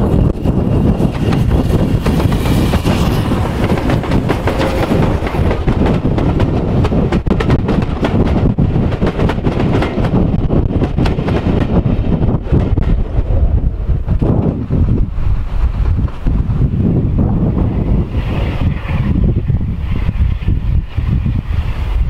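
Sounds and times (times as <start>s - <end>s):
steam locomotive passing: 0.0s - 22.0s
wind buffeting microphone: 0.0s - 22.0s.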